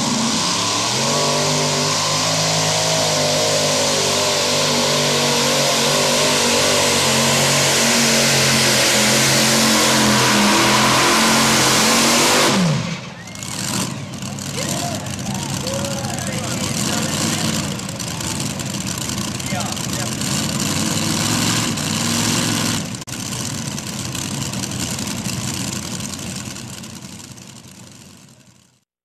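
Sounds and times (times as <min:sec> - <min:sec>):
pulling tractor engines roaring: 0:00.0 - 0:28.8.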